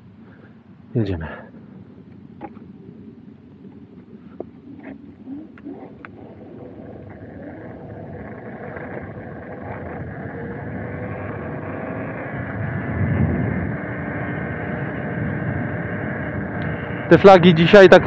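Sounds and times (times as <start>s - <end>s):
low gusty rumble on microphone: 0.0s - 18.0s
wind and road noise: 0.0s - 18.0s.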